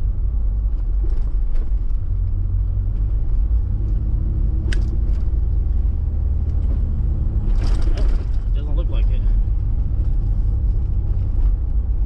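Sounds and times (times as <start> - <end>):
engine drone: 0.0 - 12.0
road rumble inside car: 0.0 - 12.0.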